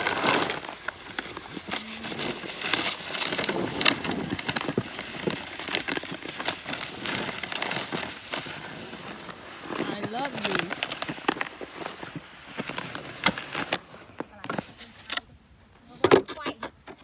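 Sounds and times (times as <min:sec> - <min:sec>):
packed snow crunching: 0:00.0 - 0:15.2
snow shovel scraping snow: 0:00.0 - 0:15.2.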